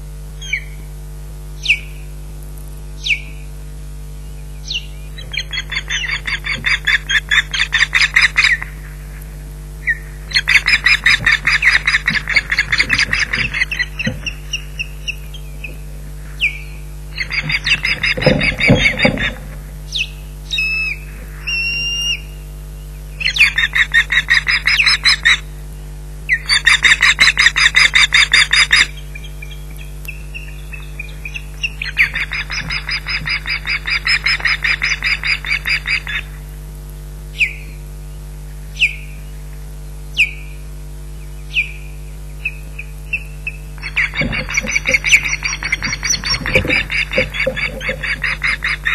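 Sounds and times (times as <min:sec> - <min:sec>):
osprey alarm calls: 0:00.4 - 0:00.9, 0:01.6 - 0:02.1, 0:03.0 - 0:03.5, 0:04.3 - 0:08.9, 0:09.8 - 0:22.4, 0:23.2 - 0:25.5, 0:26.3 - 0:36.4, 0:37.4 - 0:37.8, 0:38.7 - 0:39.4, 0:40.1 - 0:40.6, 0:41.2 - 0:48.9.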